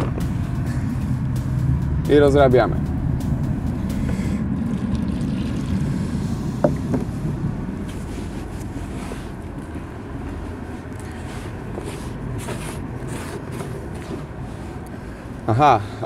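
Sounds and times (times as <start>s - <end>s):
traffic rumble on bridge: 0.0s - 16.0s.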